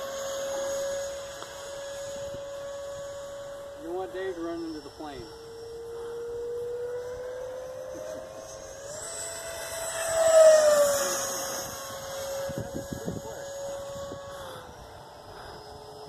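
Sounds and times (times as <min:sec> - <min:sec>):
electric ducted fan jet whining: 0:00.0 - 0:16.0.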